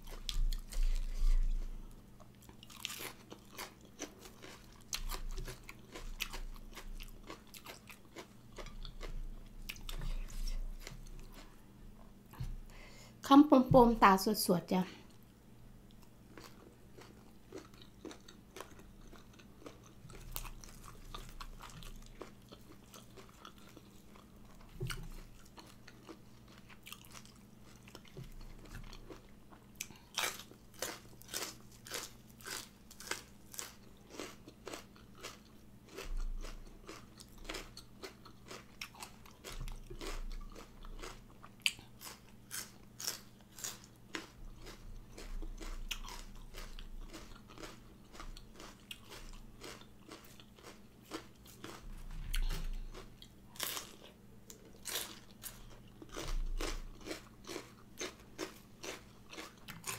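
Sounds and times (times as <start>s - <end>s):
crunchy chewing: 0.0s - 11.6s, 15.9s - 59.9s.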